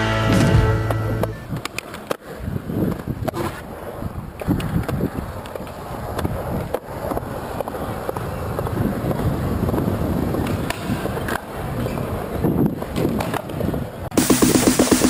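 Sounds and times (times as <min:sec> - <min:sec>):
skateboard wheels rolling on concrete: 0:00.0 - 0:15.0
skateboard clacking on ground: 0:00.8 - 0:14.1.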